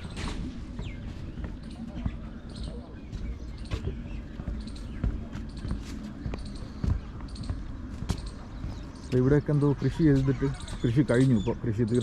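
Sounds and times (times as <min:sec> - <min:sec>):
footsteps on elevated walkway: 0:00.0 - 0:12.0.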